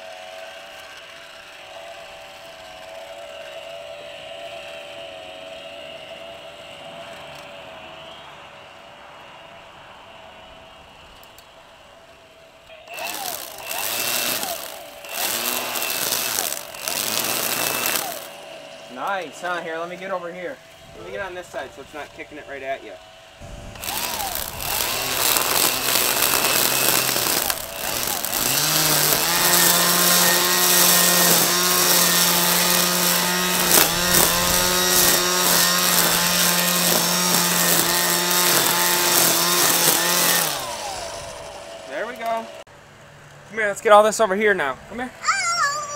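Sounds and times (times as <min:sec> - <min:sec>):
trimmer line cutting grass: 0:00.0 - 0:08.0, 0:12.8 - 0:42.6
string trimmer whining: 0:00.0 - 0:08.3, 0:11.2 - 0:42.7.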